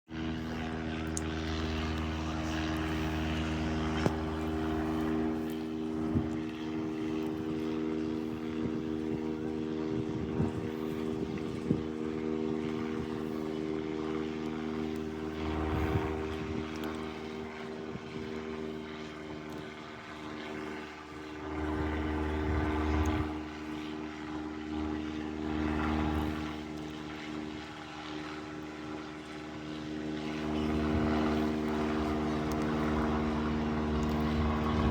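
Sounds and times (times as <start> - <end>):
propeller airplane droning: 0.1 - 34.9.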